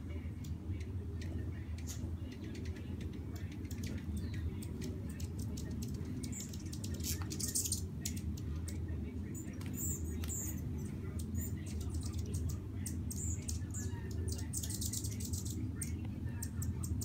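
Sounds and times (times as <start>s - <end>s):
hummingbird chip notes: 0.0s - 17.0s
low steady hum: 0.0s - 17.0s
squeaky chatter: 0.0s - 17.0s.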